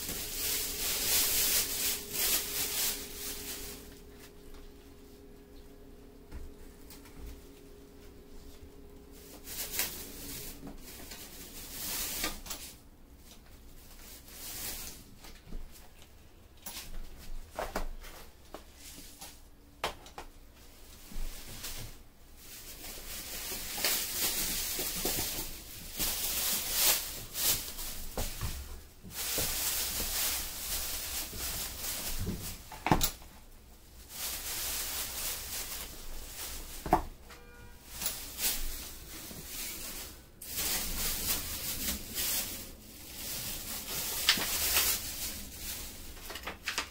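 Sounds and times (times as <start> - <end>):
plastic shopping bag rustling: 0.0 - 19.5, 20.3 - 46.9.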